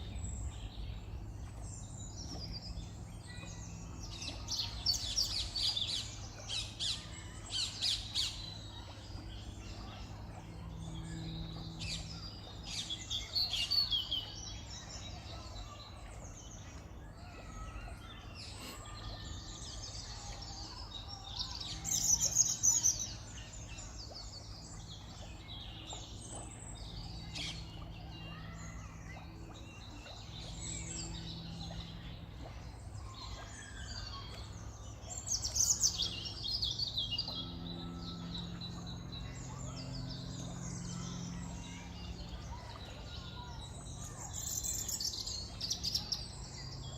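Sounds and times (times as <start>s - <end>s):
low background hum: 0.0s - 46.9s.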